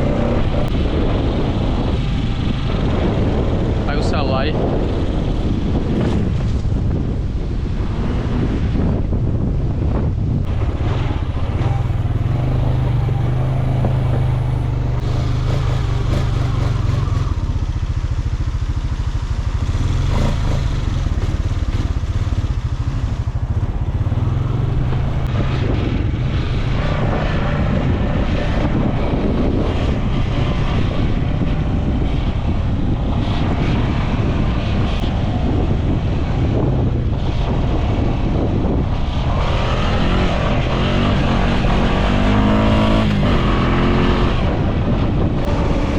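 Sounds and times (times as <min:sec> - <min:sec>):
quad bike engine running: 0:00.0 - 0:04.0, 0:10.4 - 0:45.9.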